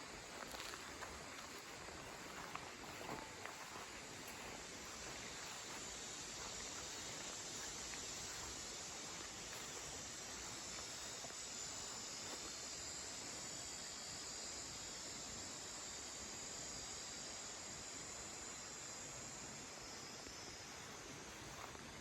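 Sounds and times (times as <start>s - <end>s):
faint outdoor background noise: 0.0s - 22.0s
insects chirping: 0.0s - 22.0s.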